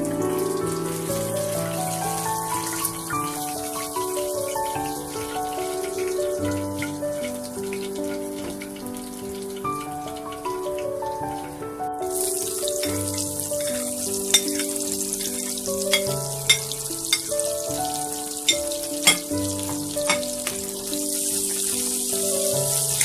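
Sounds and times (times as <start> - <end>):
onions sizzling in oil: 0.0 - 10.8, 11.4 - 23.0
slow instrumental music: 0.0 - 23.0.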